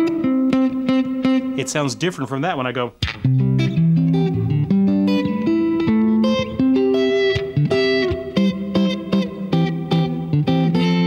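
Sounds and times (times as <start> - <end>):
electric guitar picked notes: 0.0 - 11.0.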